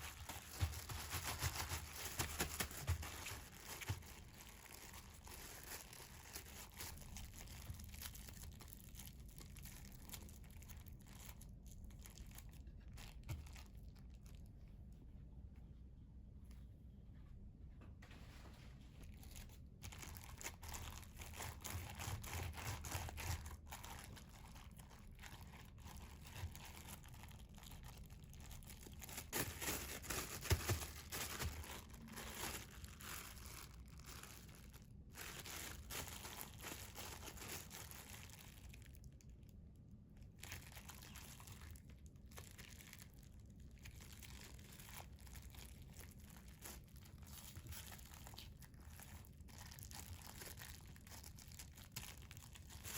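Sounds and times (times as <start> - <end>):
plastic bag crinkling: 0.0 - 14.5, 19.0 - 39.2, 40.3 - 52.9.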